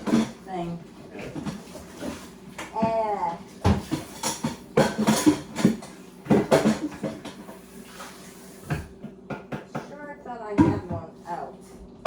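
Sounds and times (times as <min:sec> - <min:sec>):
dishes and containers clattering: 0:00.0 - 0:09.9, 0:10.5 - 0:11.2.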